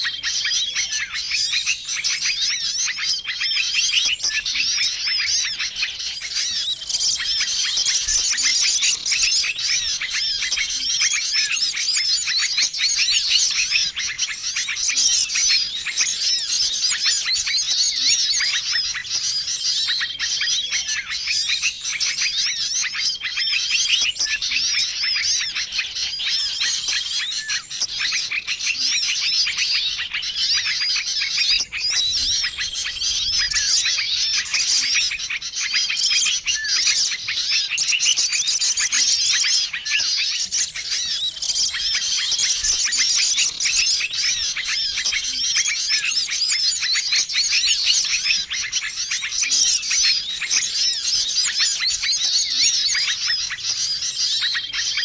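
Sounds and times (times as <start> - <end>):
songbirds twittering: 0.0 - 55.0.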